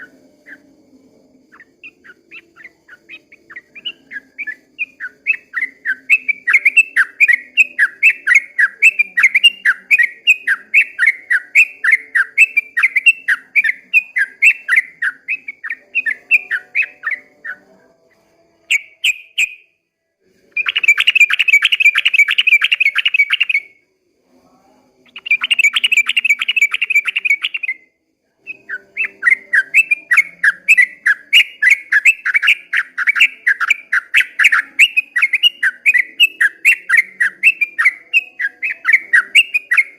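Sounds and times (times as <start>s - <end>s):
bird chirping and trilling: 0.0s - 17.8s, 18.5s - 19.8s, 20.5s - 23.8s, 25.0s - 27.8s, 28.4s - 39.9s.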